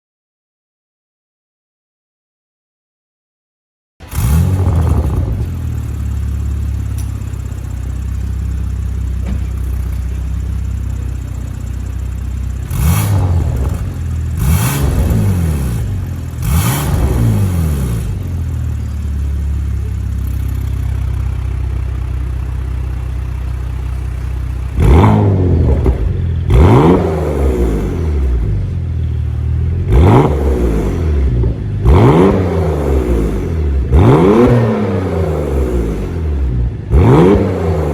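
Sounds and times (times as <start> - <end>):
car engine idling and revving: 4.0 - 37.9.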